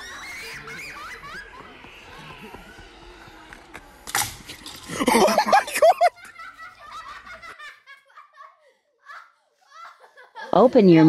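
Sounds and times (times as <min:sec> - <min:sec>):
family laughing: 0:00.0 - 0:03.6, 0:04.8 - 0:11.0.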